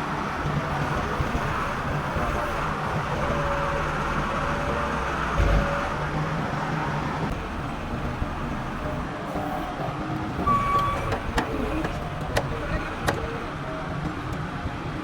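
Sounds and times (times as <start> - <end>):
heavy machine engine running: 0.0 - 15.0.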